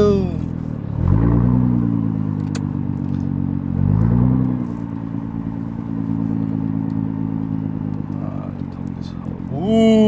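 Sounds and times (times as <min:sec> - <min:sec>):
car engine exhaust revving: 0:00.0 - 0:10.0.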